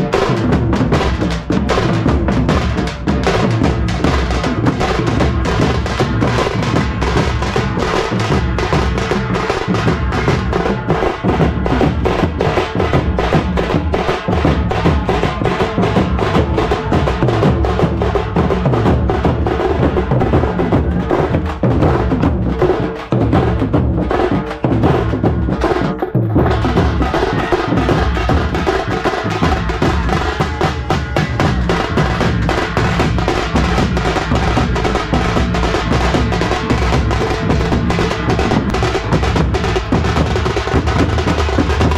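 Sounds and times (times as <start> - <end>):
dhol drums playing: 0.0 - 41.9.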